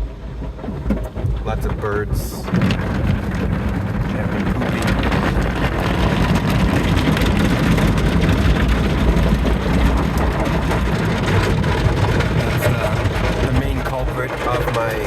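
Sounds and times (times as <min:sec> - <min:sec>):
low pump rumble: 0:00.0 - 0:15.0.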